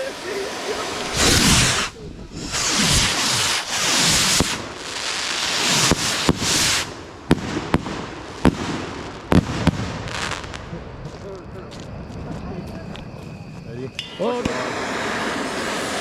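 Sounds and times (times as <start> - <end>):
firework bangs: 0.0 - 13.1, 14.0 - 16.0
fireworks hissing and whistling: 0.0 - 16.0.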